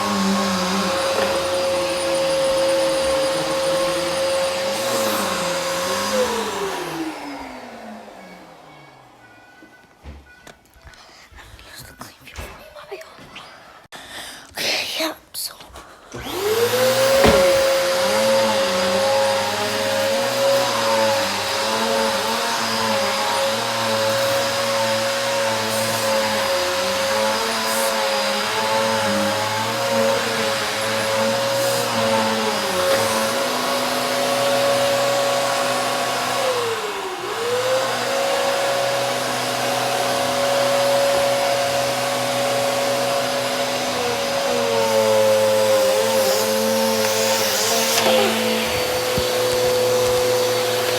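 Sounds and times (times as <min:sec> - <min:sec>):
vacuum cleaner running: 0:00.0 - 0:09.4, 0:16.2 - 0:50.9.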